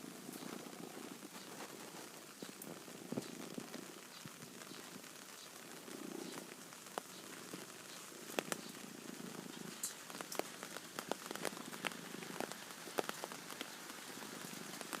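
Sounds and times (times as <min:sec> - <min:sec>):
cat purring: 0:00.0 - 0:15.0
rain falling: 0:00.0 - 0:15.0.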